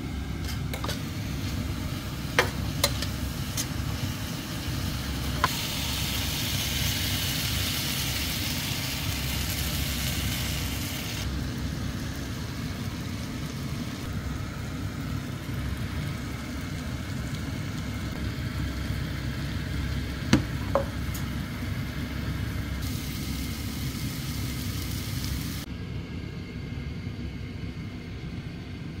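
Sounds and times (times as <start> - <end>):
food sizzling in a frying pan: 0.6 - 25.7.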